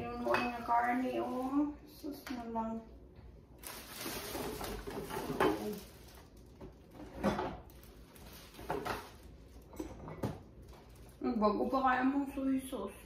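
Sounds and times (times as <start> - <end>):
plastic bag rustling: 0.0 - 2.2, 3.6 - 12.1.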